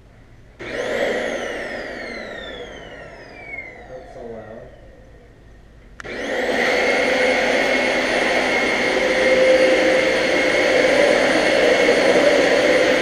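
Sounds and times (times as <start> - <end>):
vacuum cleaner motor whining: 0.6 - 5.4, 6.0 - 13.0.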